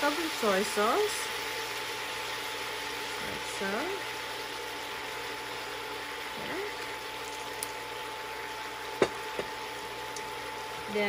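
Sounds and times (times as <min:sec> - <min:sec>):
sauce bubbling in a hot pan: 0:00.0 - 0:10.9.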